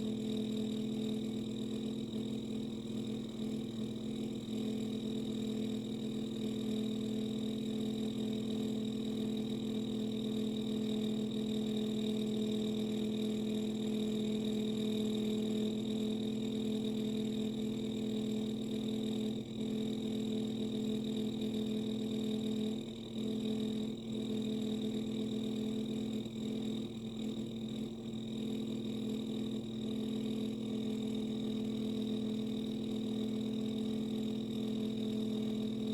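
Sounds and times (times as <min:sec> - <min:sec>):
dishwasher humming drone: 0:00.0 - 0:35.9.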